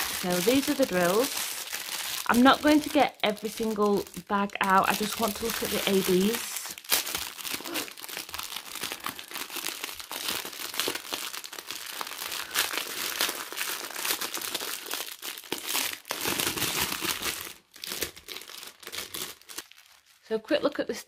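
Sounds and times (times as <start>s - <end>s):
plastic wrapping crinkling: 0.0s - 20.6s.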